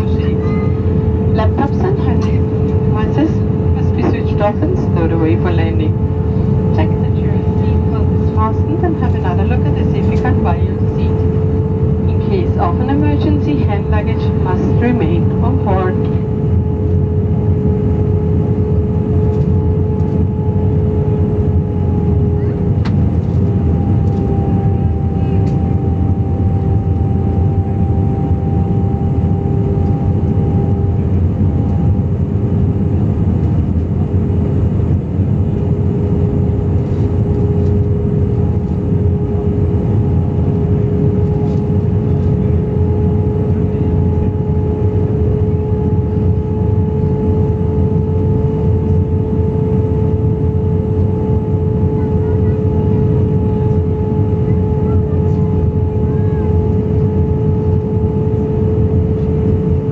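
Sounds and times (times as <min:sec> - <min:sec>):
droning hum: 0:00.0 - 0:59.9
jet engine and airflow rush: 0:00.0 - 0:59.9.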